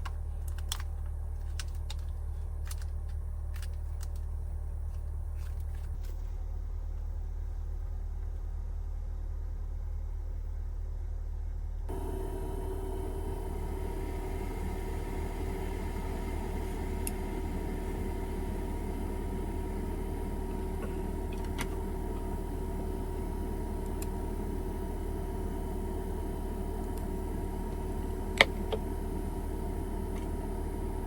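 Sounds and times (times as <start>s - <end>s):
machine hum with whine: 0.0s - 31.0s.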